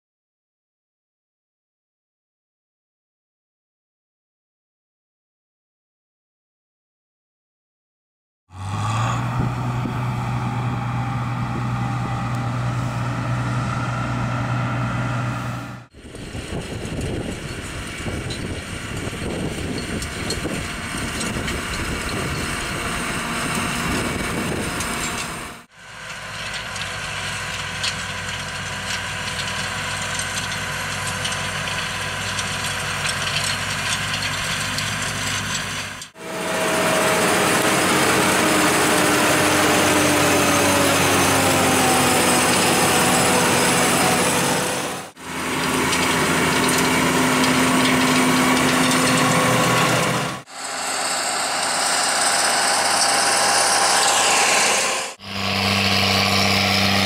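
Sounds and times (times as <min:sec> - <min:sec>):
tractor diesel engine running: 0:08.5 - 0:57.0.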